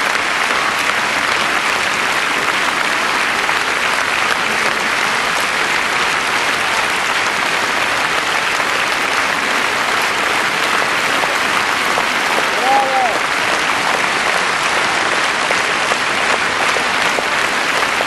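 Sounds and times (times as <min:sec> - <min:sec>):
large audience applauding: 0:00.0 - 0:18.0.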